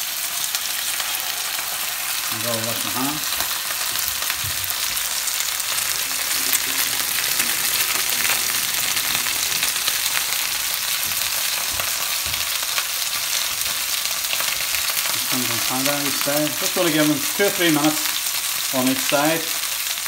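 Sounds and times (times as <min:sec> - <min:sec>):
pork chops sizzling in oil: 0:00.0 - 0:20.0.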